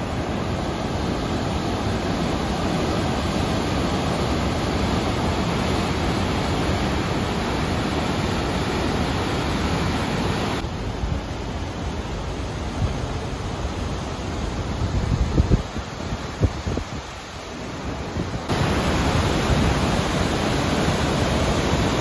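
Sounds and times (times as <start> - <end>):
river roaring through gorge: 0.0 - 22.0.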